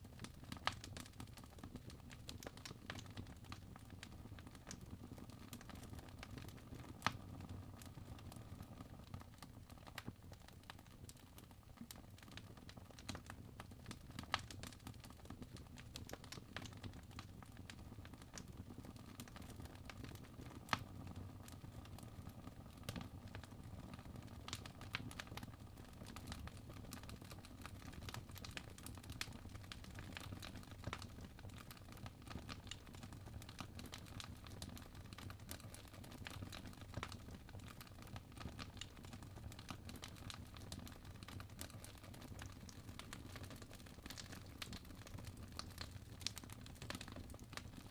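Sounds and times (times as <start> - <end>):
fire crackling in fireplace: 0.0 - 47.9.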